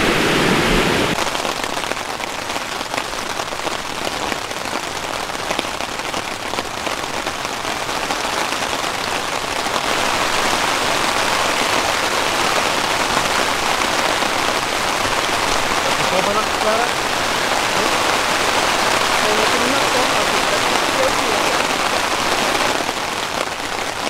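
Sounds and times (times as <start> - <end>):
rain pattering on tent fabric: 0.0 - 24.0
steady rain falling: 0.0 - 24.0.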